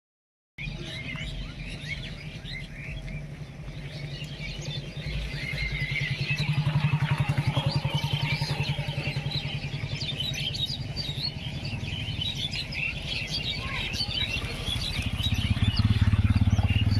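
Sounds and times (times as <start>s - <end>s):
birds chirping: 0.6s - 16.9s
motor engine humming: 1.2s - 16.9s.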